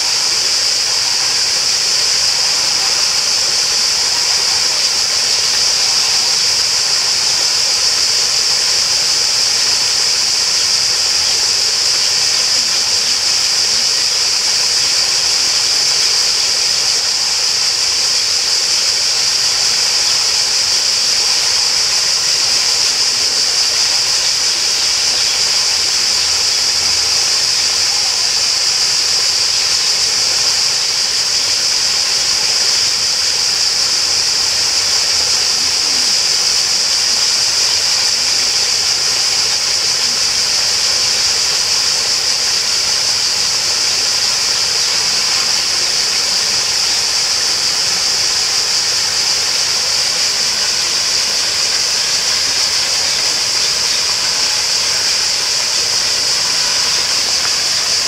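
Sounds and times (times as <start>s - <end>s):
high-pitched shrill hiss: 0.0s - 58.0s
water rushing: 0.0s - 58.0s.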